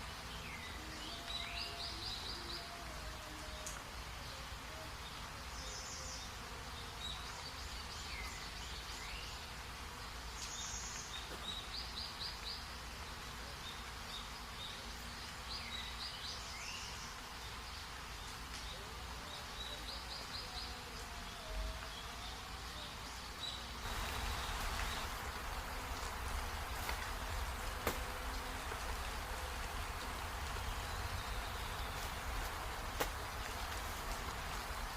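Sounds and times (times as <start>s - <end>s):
steady hiss: 0.0s - 34.9s.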